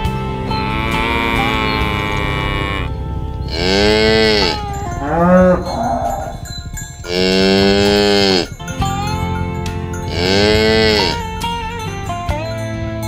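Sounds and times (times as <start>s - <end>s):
cows mooing: 0.0s - 11.9s.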